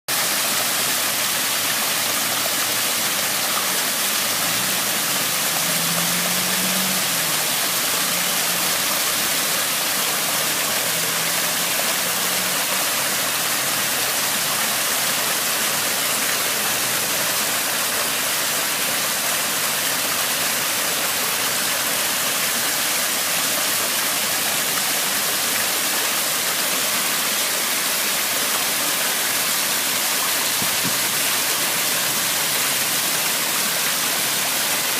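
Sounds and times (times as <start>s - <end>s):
rushing water: 0.1s - 34.9s.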